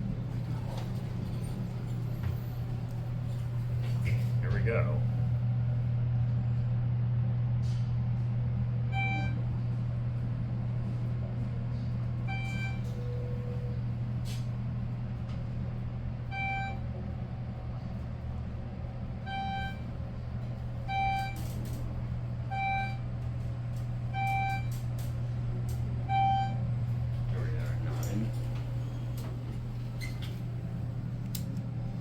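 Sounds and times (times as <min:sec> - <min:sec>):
elevator humming: 0:00.0 - 0:32.0.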